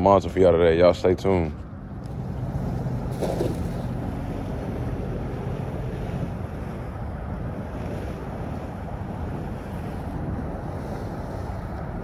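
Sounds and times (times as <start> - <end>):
wind buffeting microphone: 0.0 - 12.0
water rushing from spillway: 2.0 - 12.0.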